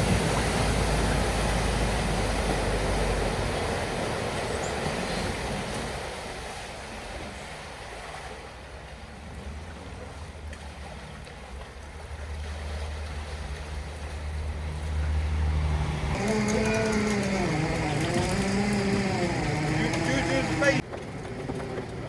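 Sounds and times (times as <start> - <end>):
vehicle engine hum: 0.0 - 5.8, 9.6 - 22.0
rushing floodwater: 0.0 - 20.8.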